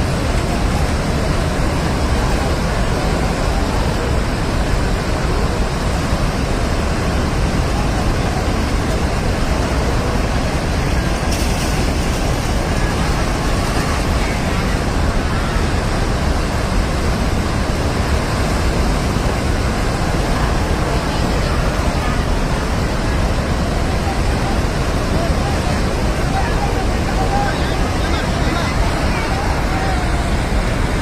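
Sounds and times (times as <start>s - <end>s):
flash flood torrent of water: 0.0s - 31.0s.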